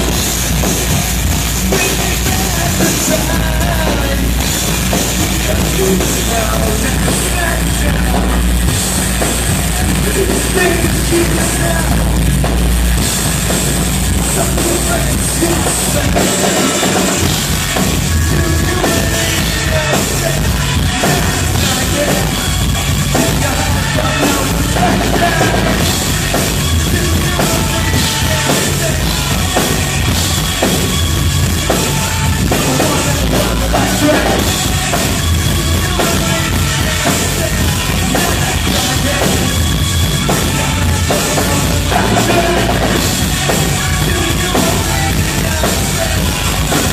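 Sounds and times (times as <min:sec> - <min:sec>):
low bass: 0:00.0 - 0:46.9
rock band playing live: 0:00.0 - 0:46.9.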